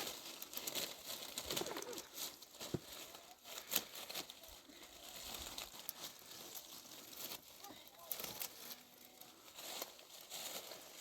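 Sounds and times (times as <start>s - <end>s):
irregular rustling: 0.0s - 11.0s.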